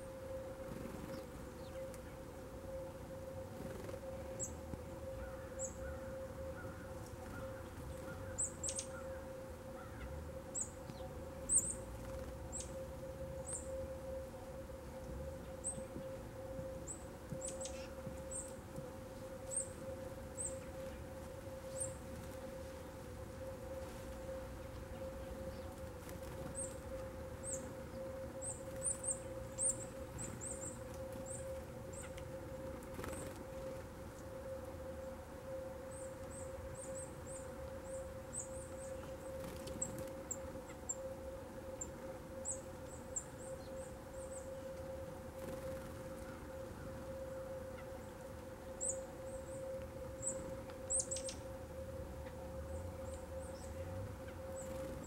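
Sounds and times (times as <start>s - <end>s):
faint steady hum: 0.0s - 55.0s
songbird call notes: 0.3s - 3.0s, 3.6s - 14.3s, 15.0s - 34.3s, 41.8s - 51.6s, 52.2s - 55.0s.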